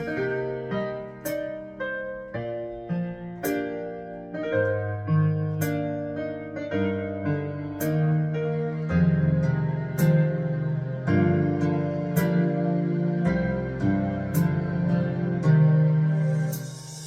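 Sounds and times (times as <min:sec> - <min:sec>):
slow piano-like keyboard chords: 0:00.0 - 0:17.0.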